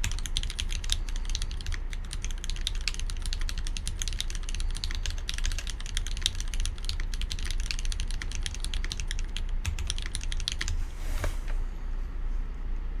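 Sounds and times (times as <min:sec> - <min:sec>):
mechanical keyboard typing: 0:00.0 - 0:10.8.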